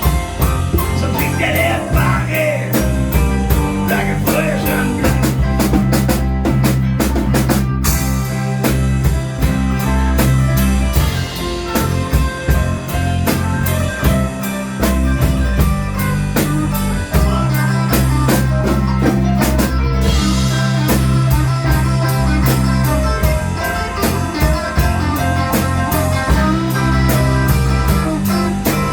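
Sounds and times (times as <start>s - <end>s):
drum kit steady beat: 0.0s - 28.9s
electric guitar: 0.0s - 28.9s
low bass notes: 0.0s - 28.9s.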